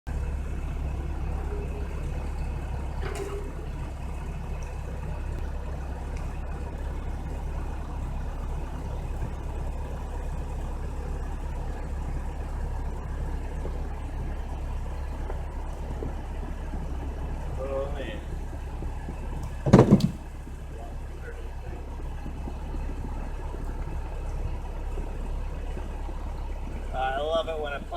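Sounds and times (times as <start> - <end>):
vehicle engine idling: 0.0 - 27.9.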